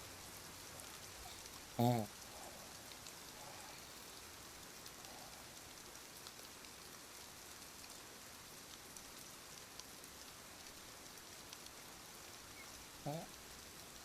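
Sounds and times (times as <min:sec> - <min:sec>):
faint steady hiss: 0:00.0 - 0:14.0
soft ticks: 0:00.8 - 0:08.0, 0:08.7 - 0:14.0.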